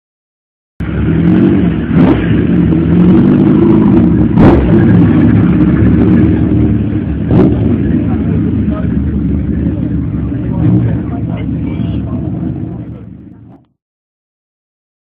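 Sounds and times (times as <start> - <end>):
car engine revving: 0.8 - 13.6.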